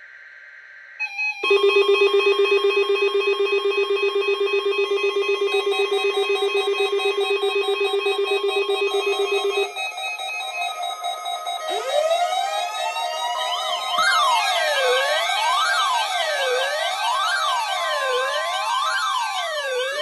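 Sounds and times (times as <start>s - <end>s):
pulsing electronic alarm tone: 1.0s - 20.0s
steady warning alarm tone: 1.1s - 20.0s.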